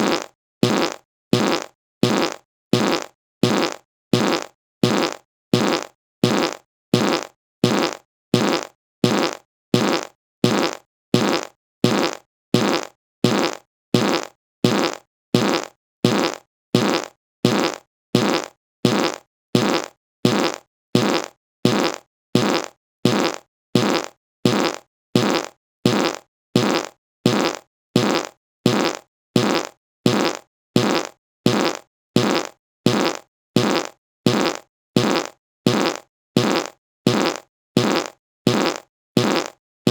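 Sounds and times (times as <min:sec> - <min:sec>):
buzzy fart sound effect: 0:00.0 - 0:39.9.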